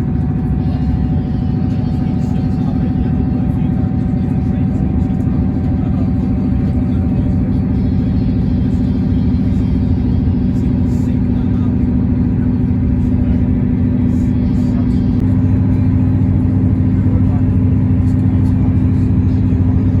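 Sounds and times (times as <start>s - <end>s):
train engine droning: 0.0s - 20.0s.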